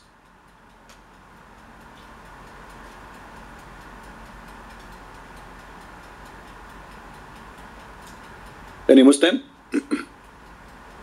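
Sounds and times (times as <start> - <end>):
faint regular ticking: 0.0 - 11.0
low steady hiss: 0.0 - 11.0.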